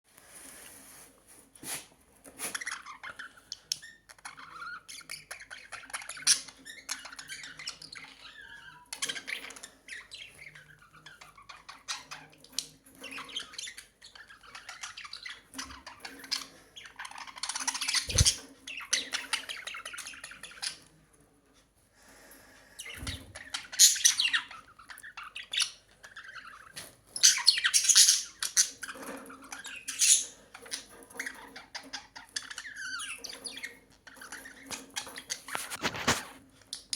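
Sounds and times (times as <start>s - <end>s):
budgerigars chattering and chirping: 2.6s - 20.9s, 22.8s - 36.1s.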